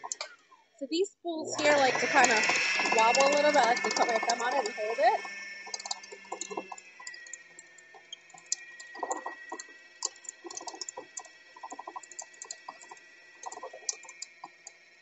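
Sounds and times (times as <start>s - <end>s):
sewing machine motor whine: 1.4s - 15.0s
light clicks and ticks: 1.6s - 14.8s.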